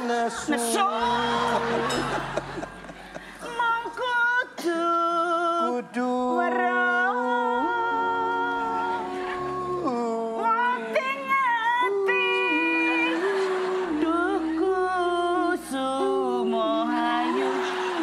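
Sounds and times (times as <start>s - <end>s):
person singing unaccompanied: 3.4s - 18.0s.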